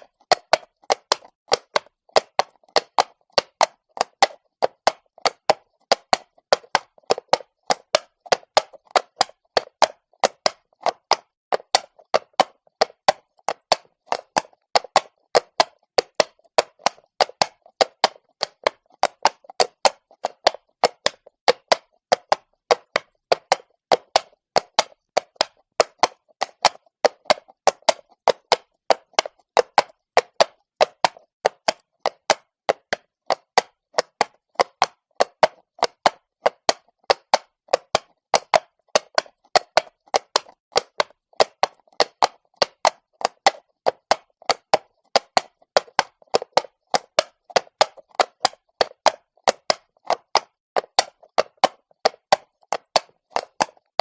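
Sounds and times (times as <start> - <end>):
horse hooves clopping on stone: 0.0 - 54.0.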